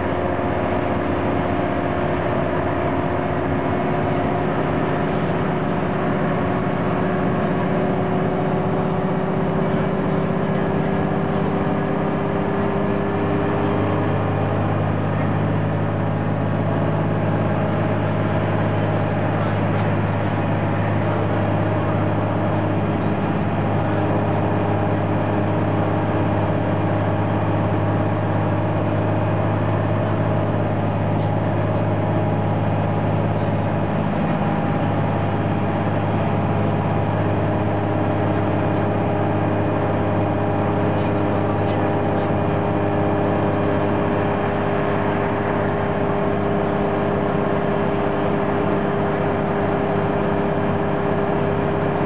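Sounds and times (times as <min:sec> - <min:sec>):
bus engine drone: 0:00.0 - 0:52.0
road noise: 0:00.0 - 0:52.0.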